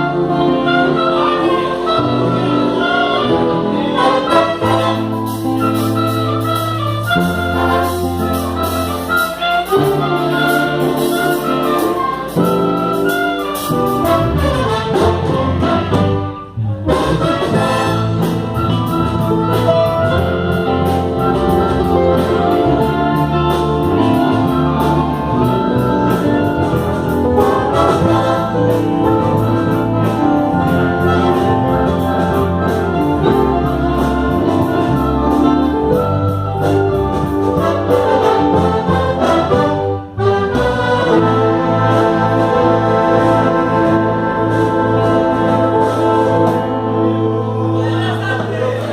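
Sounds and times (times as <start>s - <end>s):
brass band playing: 0.0s - 48.9s.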